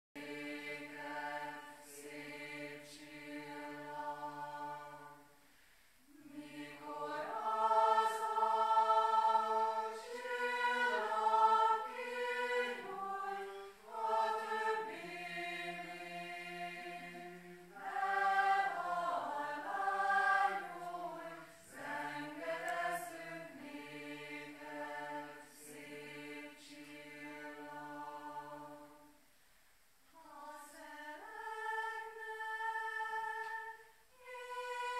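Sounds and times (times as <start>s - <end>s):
group singing a cappella: 0.2s - 5.4s, 6.0s - 29.2s, 30.1s - 34.9s.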